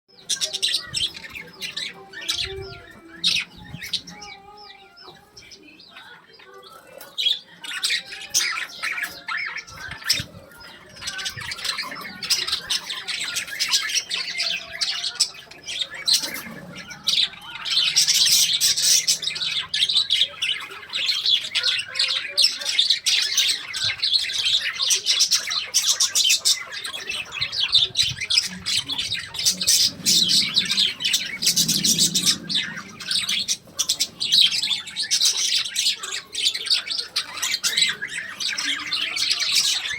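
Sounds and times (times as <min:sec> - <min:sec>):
parrots chattering and squawking: 0:00.1 - 0:39.9.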